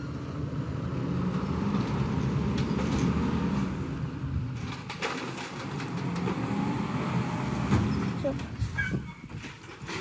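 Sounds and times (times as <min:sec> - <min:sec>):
diesel engine running: 0:00.0 - 0:08.6.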